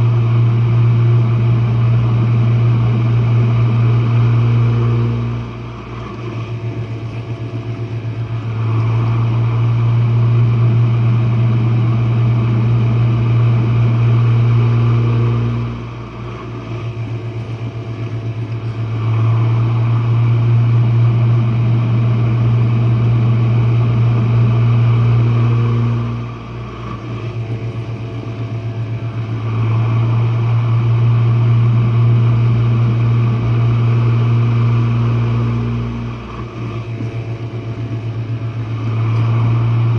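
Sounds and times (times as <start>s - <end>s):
dishwasher pump humming: 0.0s - 39.9s.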